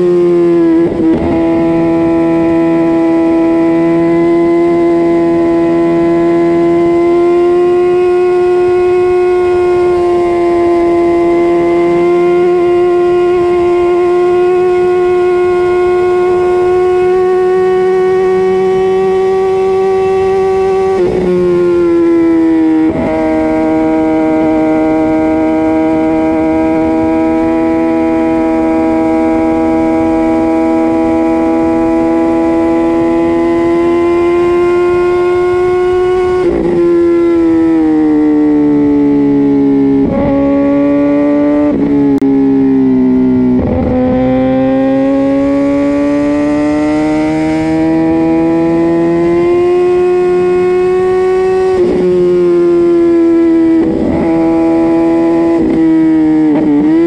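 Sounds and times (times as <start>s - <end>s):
motorcycle engine high-revving: 0.0s - 57.0s.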